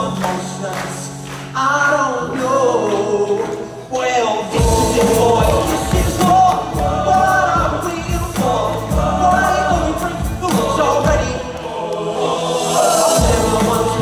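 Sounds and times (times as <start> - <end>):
live band playing: 0.0 - 11.6, 12.3 - 14.0
group of men singing: 0.0 - 14.0.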